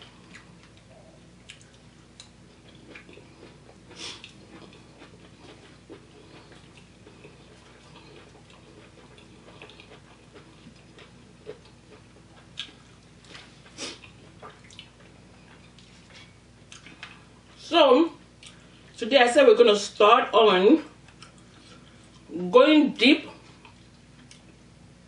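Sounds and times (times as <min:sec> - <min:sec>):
person chewing: 0:00.0 - 0:17.6, 0:18.4 - 0:19.0, 0:21.0 - 0:22.3, 0:23.5 - 0:24.6
low steady hum: 0:00.0 - 0:25.0.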